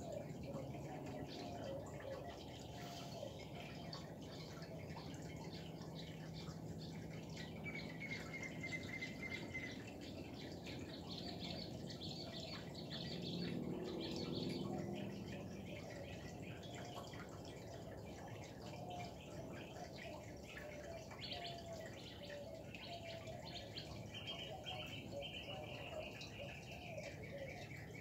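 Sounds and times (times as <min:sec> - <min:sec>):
faint bird chirp: 0:00.0 - 0:28.0
fountain water bubbling and trickling: 0:00.0 - 0:28.0.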